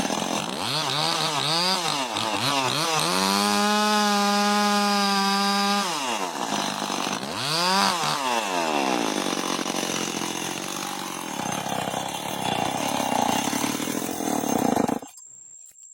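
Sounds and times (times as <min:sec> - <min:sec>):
chainsaw engine revving: 0:00.0 - 0:15.2.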